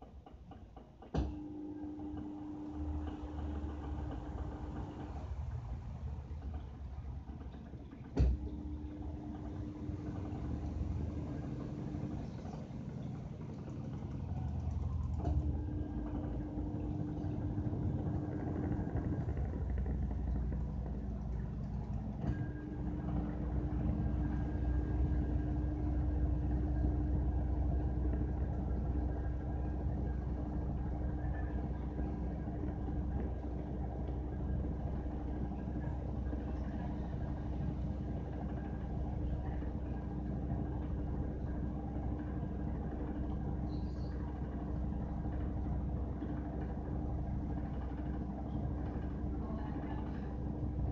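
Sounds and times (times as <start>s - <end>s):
washing machine humming: 0.0s - 50.9s
droning tone: 1.2s - 50.9s.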